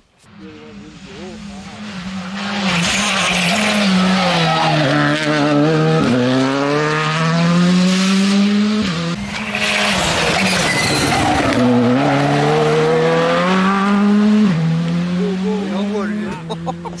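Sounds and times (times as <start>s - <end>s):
rally car engine revving: 0.3s - 17.0s.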